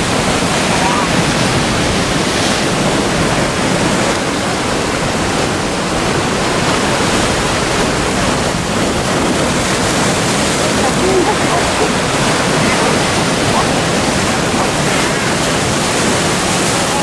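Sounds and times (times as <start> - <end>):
surf breaking on rocks: 0.0 - 17.0.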